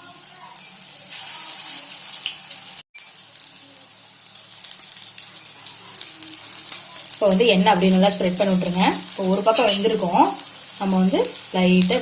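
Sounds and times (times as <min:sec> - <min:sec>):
oil sizzling on a hot pan: 0:00.0 - 0:12.0.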